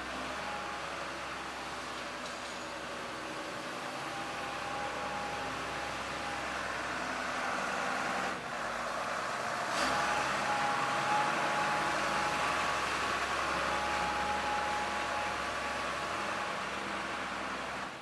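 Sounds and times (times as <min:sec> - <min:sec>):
forklift diesel engine running: 0:02.9 - 0:18.0.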